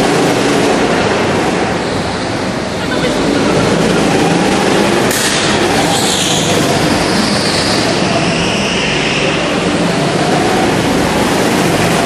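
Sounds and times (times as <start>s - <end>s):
go-kart engine drone: 0.0s - 12.0s.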